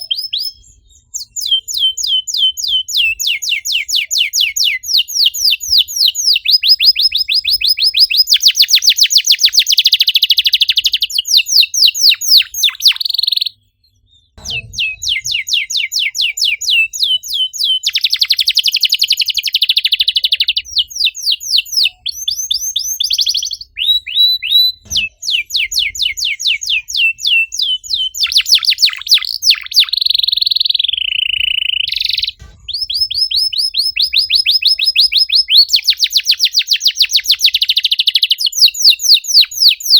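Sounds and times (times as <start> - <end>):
canary singing with trills: 0.0 - 39.9.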